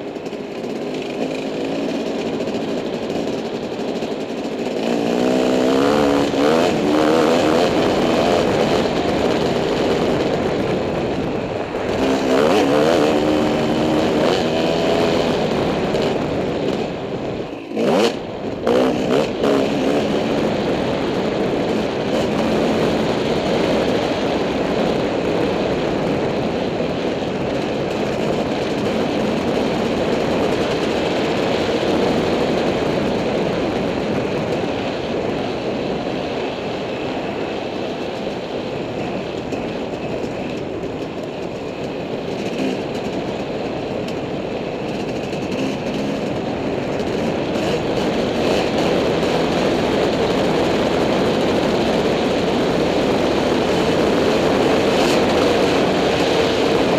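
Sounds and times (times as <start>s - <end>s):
dirt bike engine droning: 0.0s - 56.9s.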